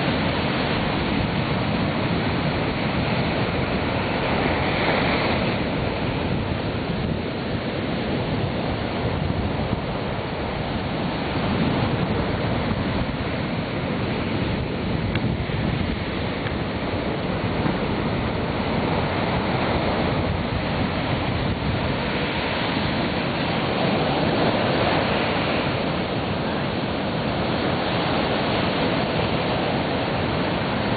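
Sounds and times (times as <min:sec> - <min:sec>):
waves breaking on beach: 0:00.0 - 0:30.9.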